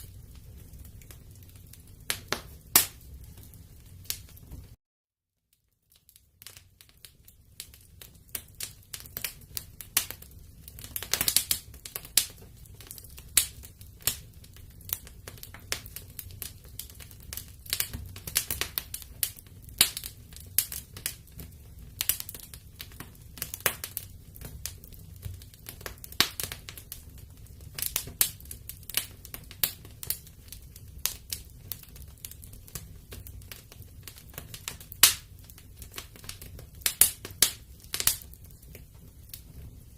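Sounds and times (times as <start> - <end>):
wood fire crackling: 0.0 - 4.8, 5.5 - 39.9.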